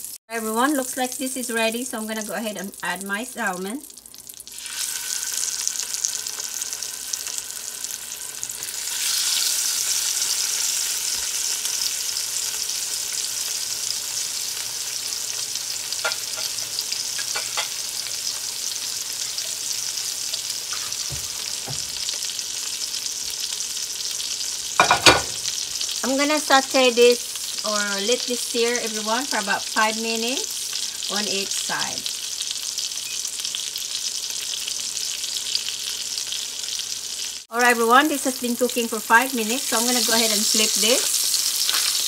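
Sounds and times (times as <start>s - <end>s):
fish sizzling in a skillet: 0.0s - 42.0s.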